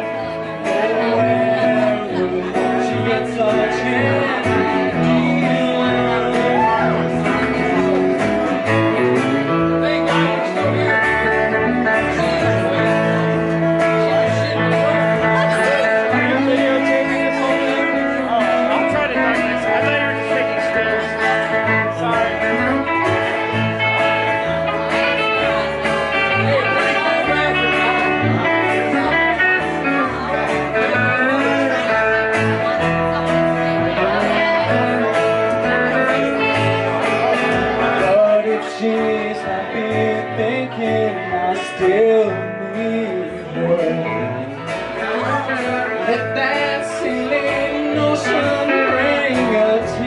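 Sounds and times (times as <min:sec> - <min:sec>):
person singing: 0:00.0 - 0:25.0, 0:25.9 - 0:50.0
bass line: 0:00.0 - 0:50.0
strummed acoustic guitar: 0:00.0 - 0:50.0.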